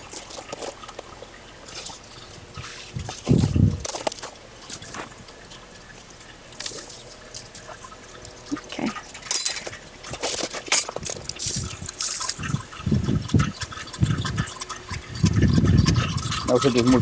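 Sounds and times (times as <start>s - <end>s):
dried plants crackling and rustling: 0.0s - 17.0s.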